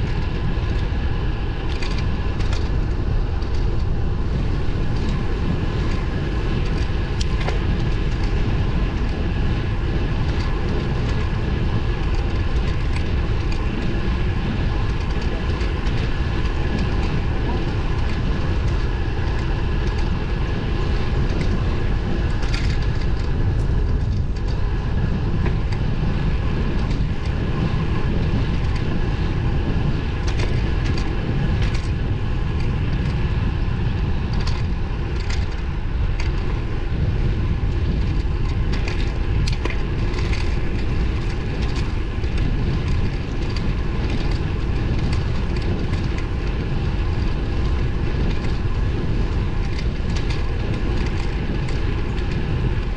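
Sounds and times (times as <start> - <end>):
wind and road noise rumble: 0.0 - 52.9.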